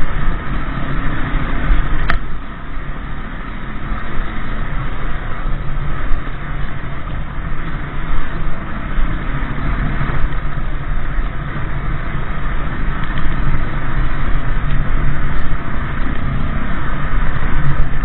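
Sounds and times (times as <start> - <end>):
motorcycle engine running: 0.0 - 18.0
wind noise on microphone: 0.0 - 18.0.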